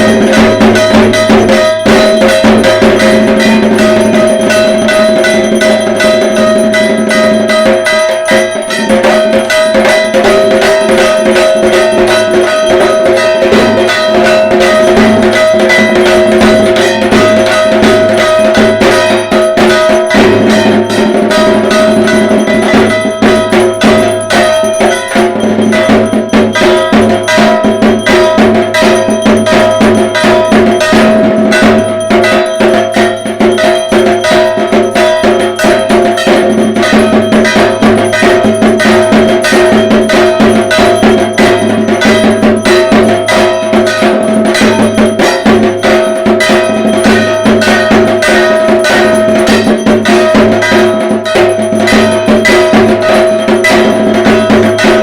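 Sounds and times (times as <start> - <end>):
fast drumming: 0.0 - 55.0
ringing metallic clang: 0.0 - 55.0.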